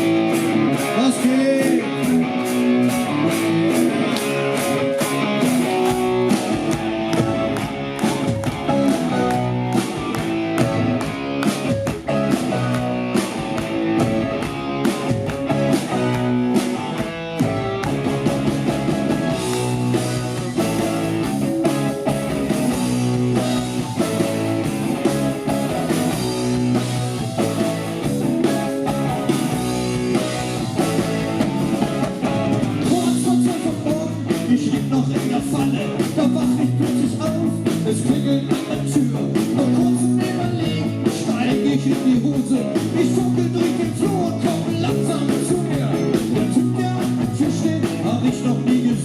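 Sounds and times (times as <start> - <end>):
electric guitars: 0.0 - 49.0
steady drum beat: 0.0 - 49.0.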